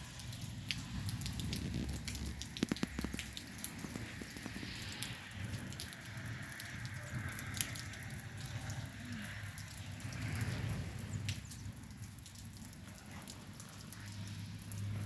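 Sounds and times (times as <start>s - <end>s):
rain falling: 0.0s - 15.0s
raindrops clicking and tapping: 0.0s - 15.0s.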